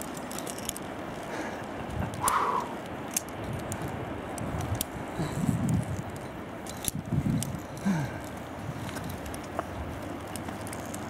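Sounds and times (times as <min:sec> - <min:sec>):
carabiners clicking on steel cable: 0:00.0 - 0:11.0
steady hiss: 0:00.0 - 0:11.0.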